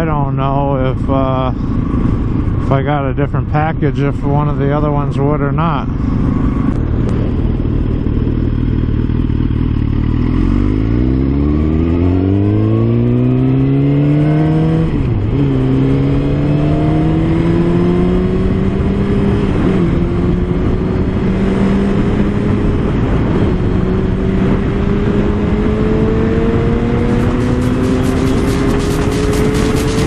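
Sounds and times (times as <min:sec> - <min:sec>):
motorcycle engine accelerating: 0:00.0 - 0:30.0
wind noise on microphone: 0:00.0 - 0:30.0.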